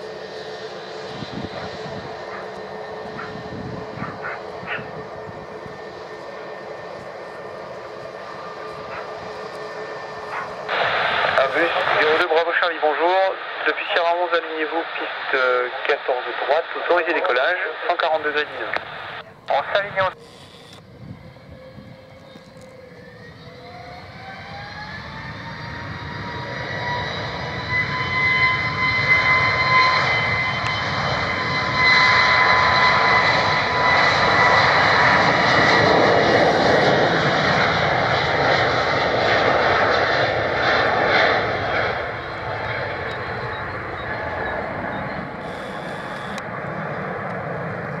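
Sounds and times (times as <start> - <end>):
jet engines spooling up and roaring: 0.0 - 48.0.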